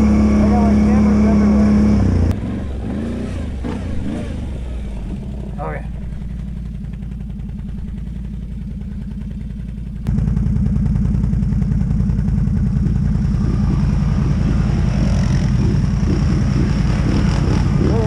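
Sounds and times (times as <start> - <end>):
atv engine rumble: 0.0 - 18.0.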